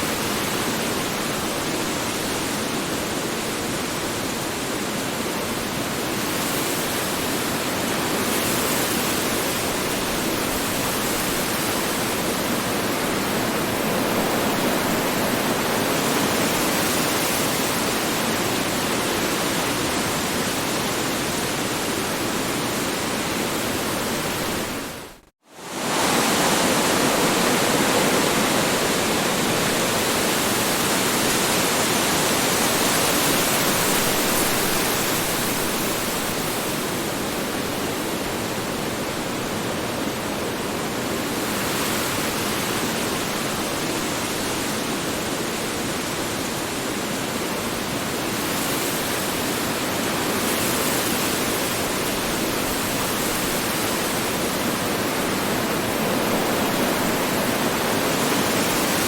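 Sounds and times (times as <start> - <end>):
strong wind roaring: 8.1 - 59.0.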